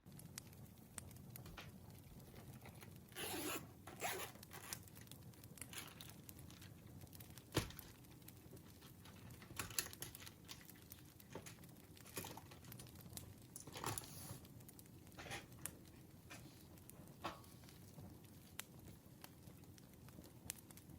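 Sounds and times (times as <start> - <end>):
campfire crackling: 0.0 - 20.9.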